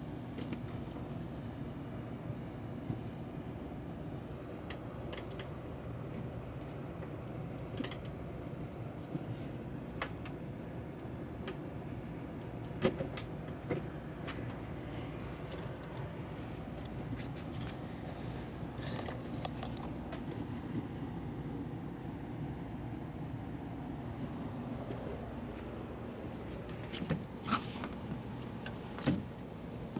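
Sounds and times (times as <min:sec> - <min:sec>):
low rumble and hiss: 0:00.0 - 0:29.9.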